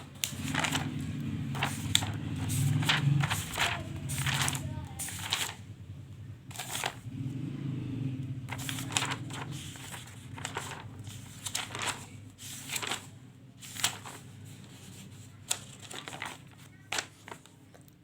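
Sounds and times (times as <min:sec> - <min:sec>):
paper pages rustling: 0:00.0 - 0:05.7, 0:06.5 - 0:07.1, 0:08.5 - 0:18.0
low steady hum: 0:00.0 - 0:07.1, 0:08.3 - 0:16.2.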